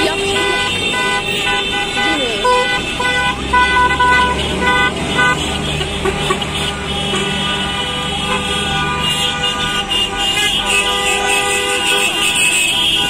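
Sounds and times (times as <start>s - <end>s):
car horns honking: 0.0s - 13.0s
low rumble of engines: 0.0s - 13.0s.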